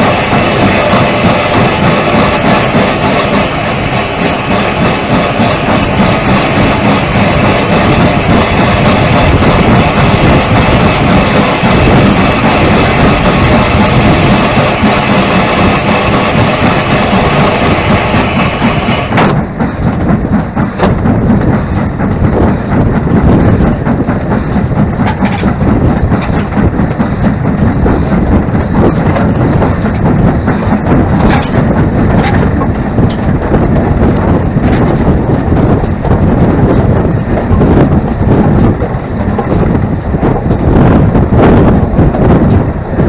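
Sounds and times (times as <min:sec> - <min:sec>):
steam locomotive running: 0:00.0 - 0:43.0.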